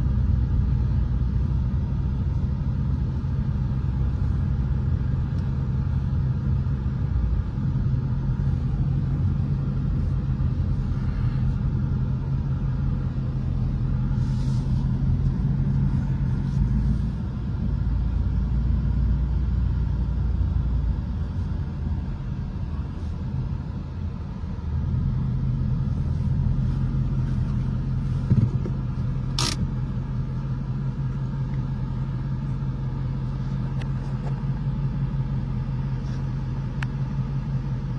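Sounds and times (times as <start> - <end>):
car engine droning: 0.0 - 37.9
road noise: 0.0 - 37.9.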